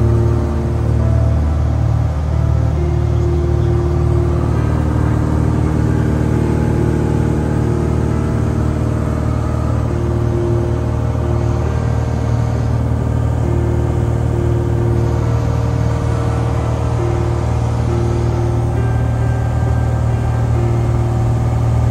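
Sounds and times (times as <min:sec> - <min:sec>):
humming tone: 0:00.0 - 0:21.9
propeller aircraft engine droning: 0:00.0 - 0:21.9.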